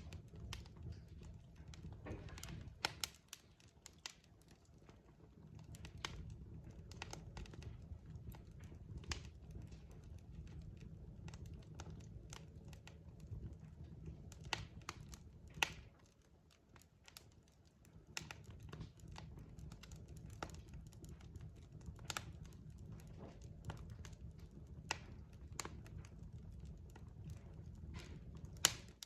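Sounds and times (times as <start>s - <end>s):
logs crackling and popping: 0.0s - 29.0s
low fire rumble: 0.0s - 29.0s.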